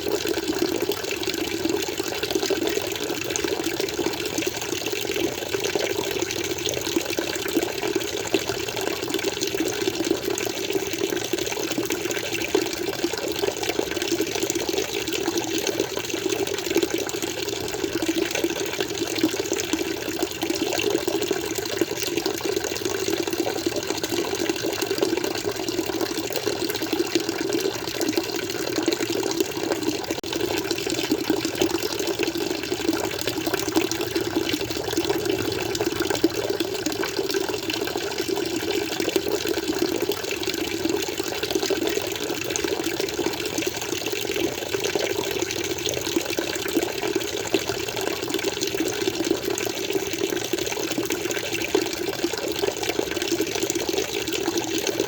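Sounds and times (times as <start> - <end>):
water splashing into aquarium: 0.0 - 55.0.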